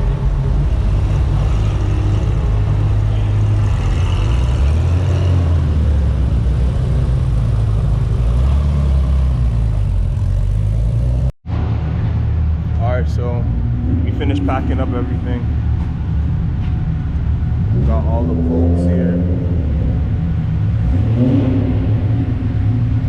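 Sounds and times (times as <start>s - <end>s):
car engines rumbling: 0.0s - 23.0s.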